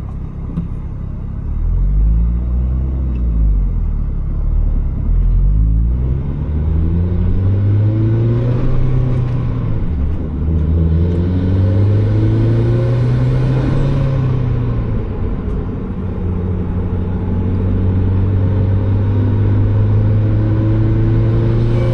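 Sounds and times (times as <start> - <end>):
car engine accelerating: 0.0 - 21.9.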